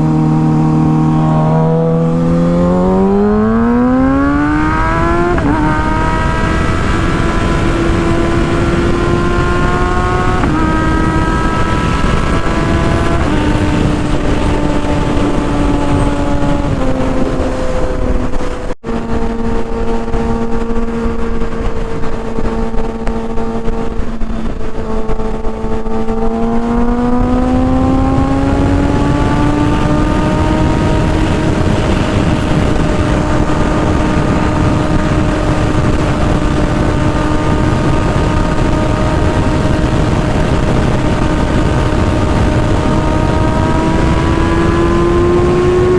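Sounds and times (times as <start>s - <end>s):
motorcycle engine revving high: 0.0s - 45.9s.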